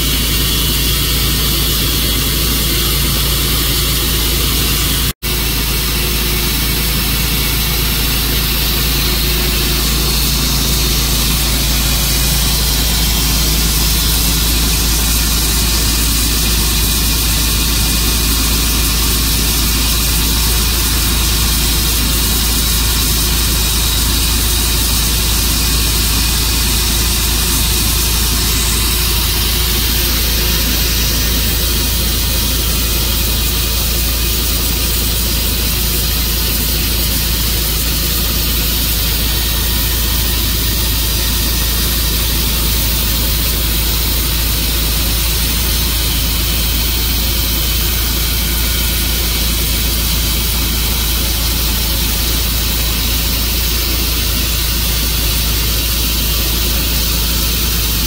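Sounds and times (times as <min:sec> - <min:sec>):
sawmill engine and saw running: 0:00.0 - 0:58.0.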